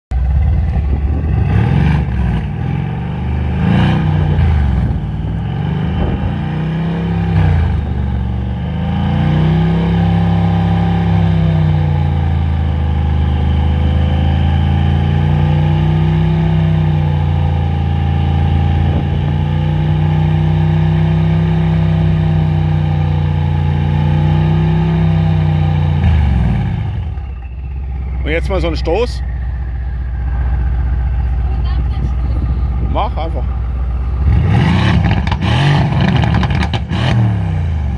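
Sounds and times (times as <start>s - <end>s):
car exhaust revving: 0.1s - 37.9s.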